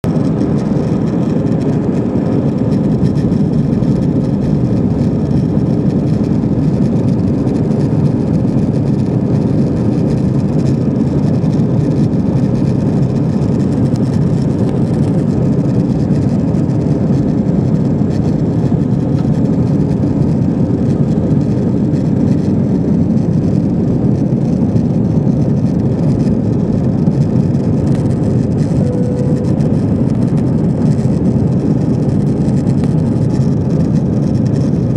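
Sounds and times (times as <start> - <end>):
airliner cabin engine roar: 0.0 - 34.9.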